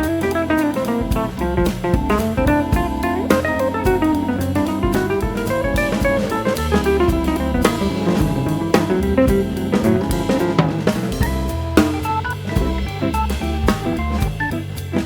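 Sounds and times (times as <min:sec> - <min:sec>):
drum kit steady beat: 0:00.0 - 0:15.0
melodic guitar line: 0:00.0 - 0:15.0.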